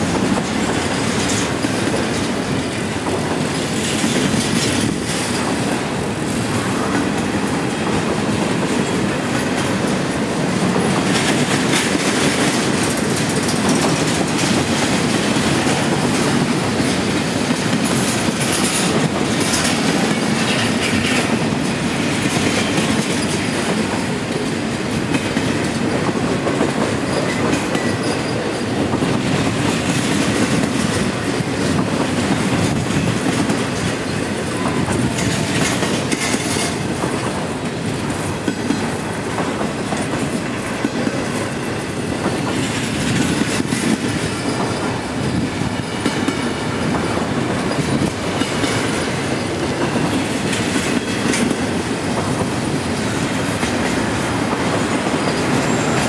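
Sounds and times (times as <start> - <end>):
freight train rolling past: 0.0 - 56.0
wheels clicking over rail joints: 0.0 - 56.0.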